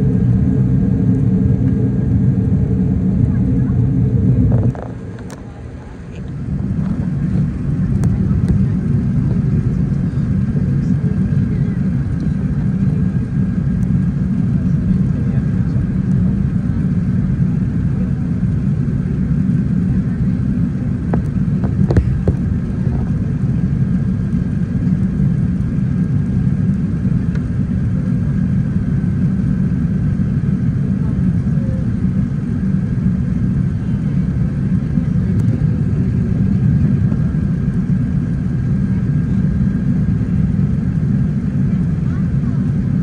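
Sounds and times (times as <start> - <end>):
engine and airflow rumble: 0.0 - 43.0.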